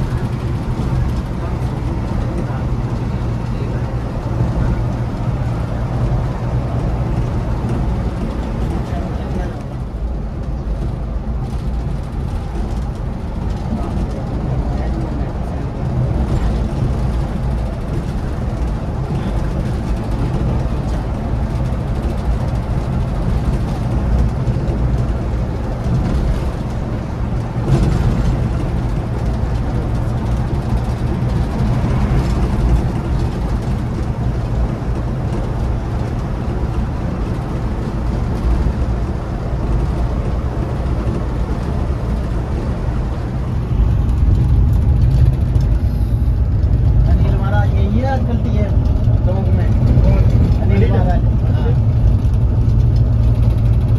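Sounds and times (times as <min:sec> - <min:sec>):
coach engine and road rumble: 0:00.0 - 0:53.9.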